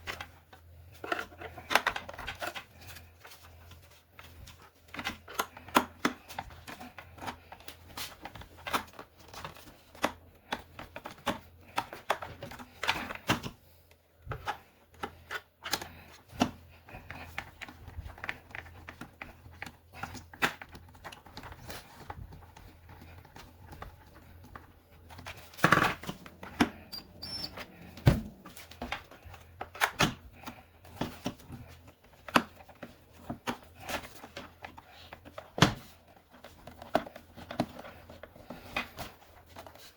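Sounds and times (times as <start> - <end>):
plastic parts clicking and knocking: 4.2 - 13.6, 14.2 - 39.8.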